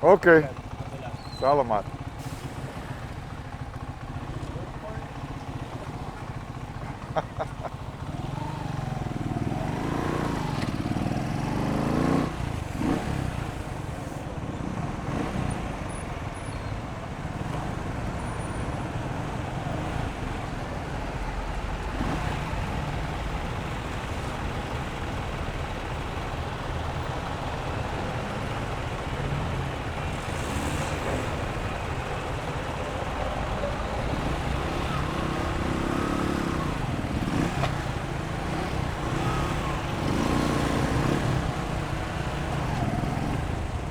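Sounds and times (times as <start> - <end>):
motorcycle engine: 0.0 - 43.9
road and wind noise: 0.0 - 43.9.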